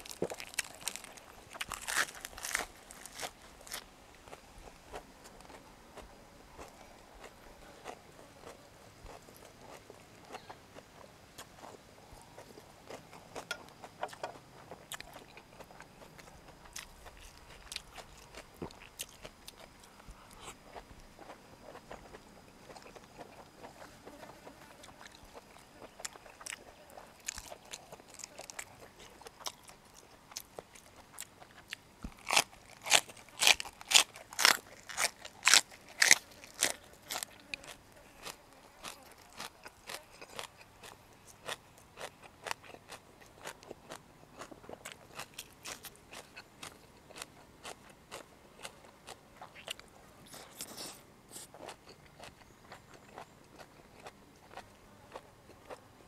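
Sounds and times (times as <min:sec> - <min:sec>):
loud crisp crunching: 0:00.0 - 0:55.9
soft chewing clicks: 0:00.0 - 0:56.0.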